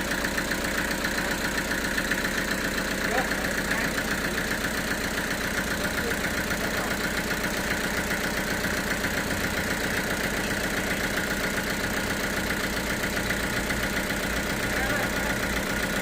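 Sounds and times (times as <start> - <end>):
sawmill machinery droning: 0.0 - 16.0.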